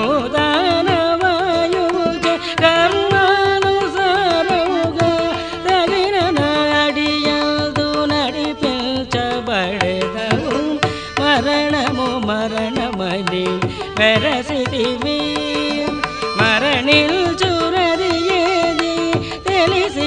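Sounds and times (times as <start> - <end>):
hand drum: 0.0 - 20.0
person singing ornamented melody: 0.0 - 20.0.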